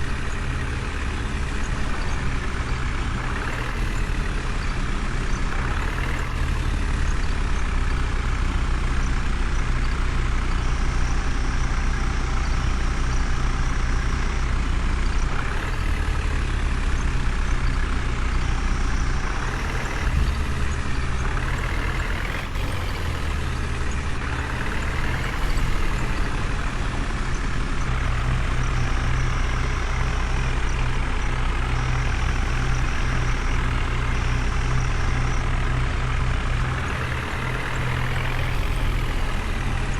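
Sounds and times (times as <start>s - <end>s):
diesel engine running and revving: 0.0s - 39.9s.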